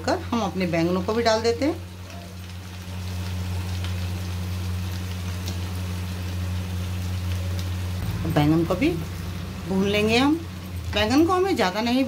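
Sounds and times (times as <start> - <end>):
steady low hum: 0.0 - 12.0
vegetables sizzling in oil: 0.0 - 12.0.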